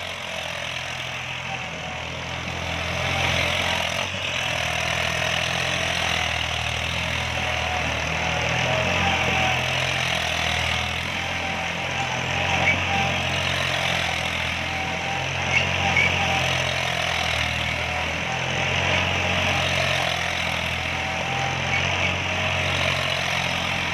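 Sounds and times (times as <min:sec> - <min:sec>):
rotavator blades churning soil: 0:00.0 - 0:23.9
tractor diesel engine running: 0:00.0 - 0:23.9.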